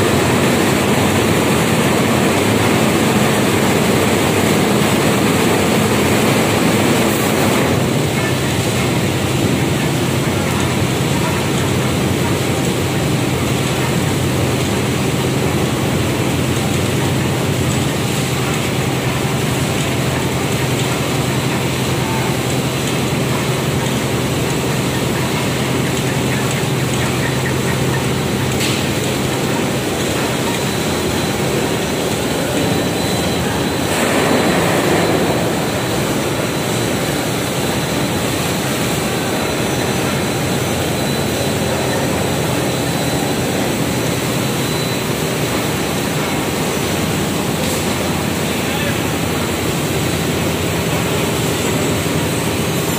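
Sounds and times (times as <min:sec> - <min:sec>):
textile machinery running: 0:00.0 - 0:52.9.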